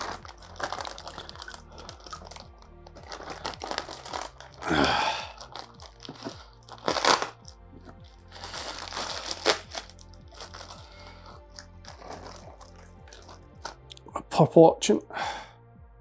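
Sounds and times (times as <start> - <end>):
plastic bag crinkling: 0.0 - 13.9
background music: 0.0 - 16.0.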